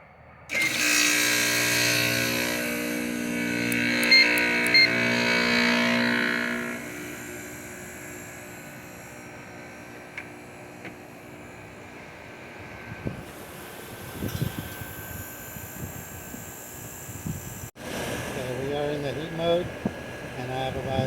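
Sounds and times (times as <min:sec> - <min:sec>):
heat pump humming: 0:00.5 - 0:21.0.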